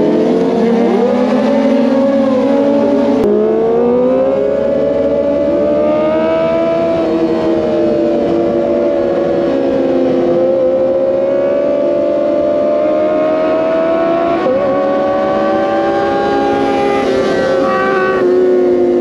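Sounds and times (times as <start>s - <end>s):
motorcycle engine high revs: 0.0s - 19.0s.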